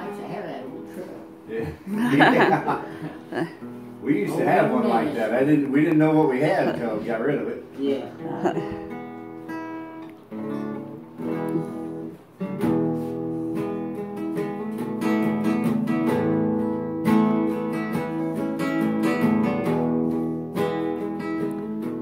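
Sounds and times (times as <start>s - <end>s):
classical guitar chords: 0.0s - 22.0s.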